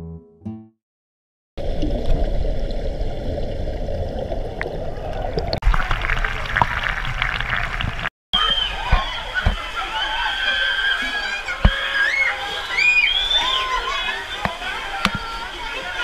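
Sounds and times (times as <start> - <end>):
water gushing and splashing: 1.6 - 16.0.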